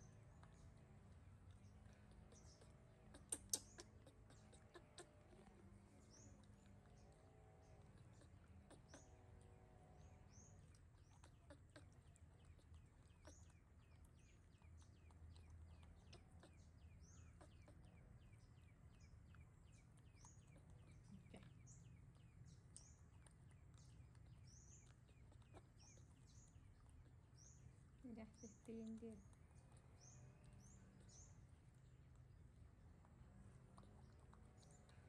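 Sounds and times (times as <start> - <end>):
low steady hum: 0.0 - 35.0
faint high bird chirps: 1.5 - 32.0.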